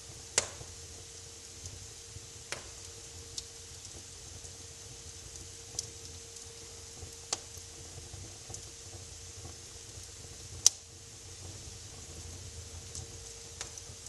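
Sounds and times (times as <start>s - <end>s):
faint steady hum: 0.0s - 14.0s
wood fire crackling: 0.0s - 14.0s
fire pops: 0.1s - 14.0s.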